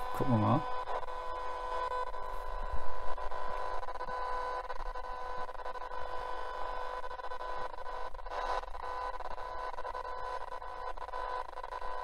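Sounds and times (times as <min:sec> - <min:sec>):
radio static hiss: 0:00.0 - 0:12.0
steady electrical whine tones: 0:00.0 - 0:12.0.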